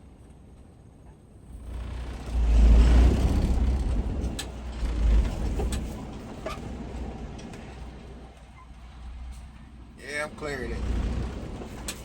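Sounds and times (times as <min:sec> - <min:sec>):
truck diesel engine rumbling: 0:01.4 - 0:12.0.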